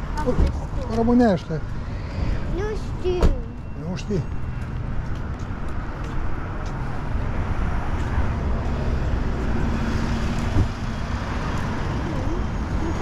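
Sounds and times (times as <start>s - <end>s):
rumble of passing vehicles: 0.0s - 13.0s.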